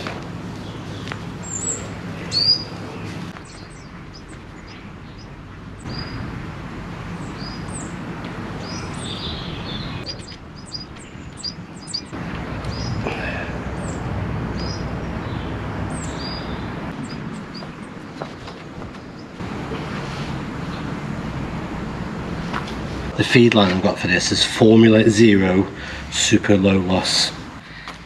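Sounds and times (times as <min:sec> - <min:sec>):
low background rumble: 0:00.0 - 0:26.3
songbirds chirping: 0:00.0 - 0:28.0.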